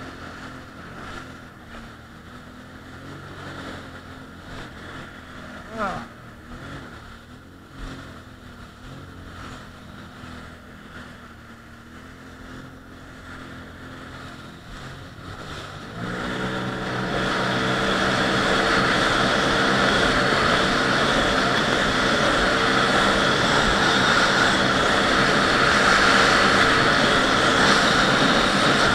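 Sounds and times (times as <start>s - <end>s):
jet ski engine running: 0.0s - 28.9s.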